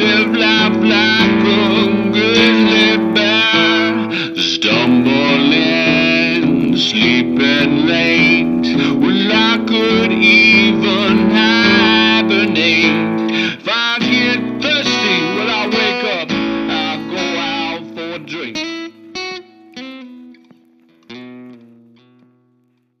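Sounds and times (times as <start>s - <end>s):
single plucked guitar notes: 0.0s - 13.4s, 14.0s - 22.8s
guitar band playing: 0.0s - 22.8s.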